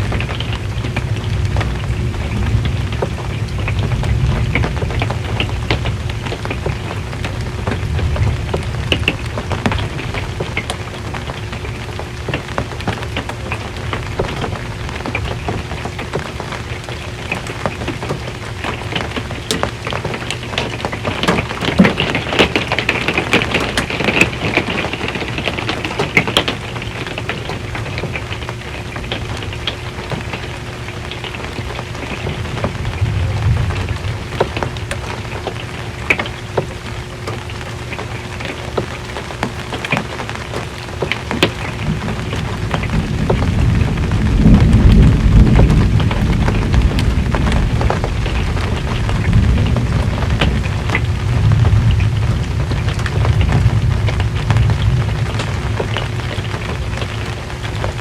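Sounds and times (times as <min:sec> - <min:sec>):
low rumble of thunder: 0:00.0 - 0:58.0
rain on a metal roof: 0:00.0 - 0:58.0.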